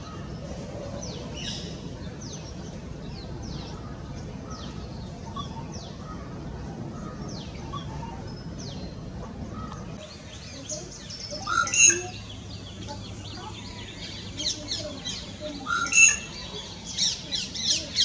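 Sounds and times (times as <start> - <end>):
low background rumble: 0.0 - 15.7.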